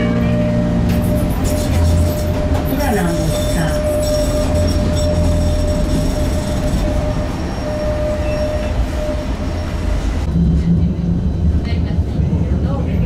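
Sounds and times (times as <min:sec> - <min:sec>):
tram running rumble: 0:00.0 - 0:13.0.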